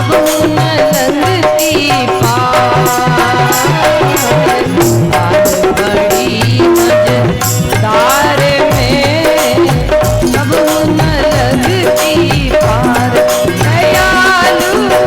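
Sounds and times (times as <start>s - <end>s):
folk devotional music melody: 0.0s - 15.0s
hand drum beat: 0.0s - 15.0s
jingling rattle percussion: 0.0s - 15.0s.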